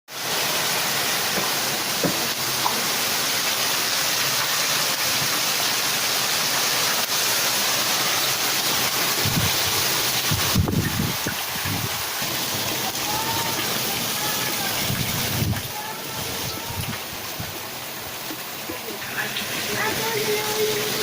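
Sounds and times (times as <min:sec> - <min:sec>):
heavy rain hissing: 0:00.1 - 0:21.0.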